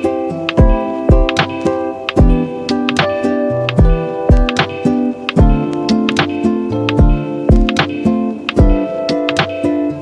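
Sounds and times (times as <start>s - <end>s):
background music with kick drum: 0.0s - 10.0s.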